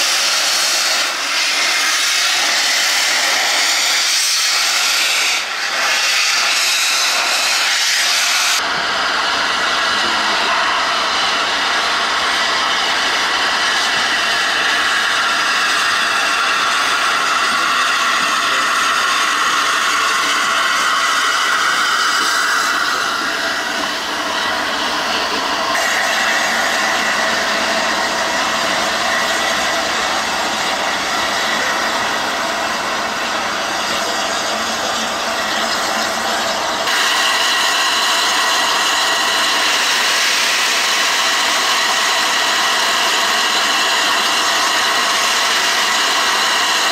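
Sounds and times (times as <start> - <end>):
locomotive hiss: 0.0 - 46.9.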